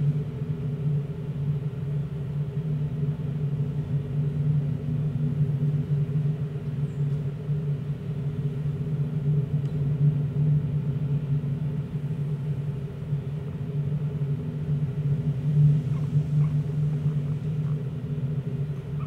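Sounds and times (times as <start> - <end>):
low droning hum: 0.0 - 19.0.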